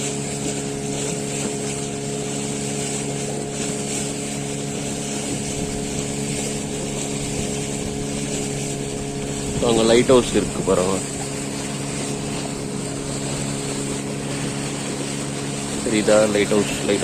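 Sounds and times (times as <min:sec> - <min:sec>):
motorboat engine running: 0:00.0 - 0:17.0
wind and water hiss: 0:00.0 - 0:17.0.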